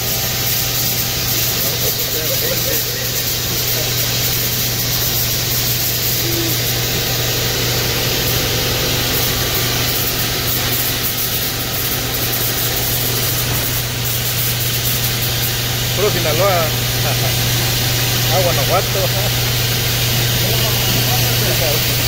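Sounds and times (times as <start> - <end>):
conveyor machinery hum: 0.0 - 22.0.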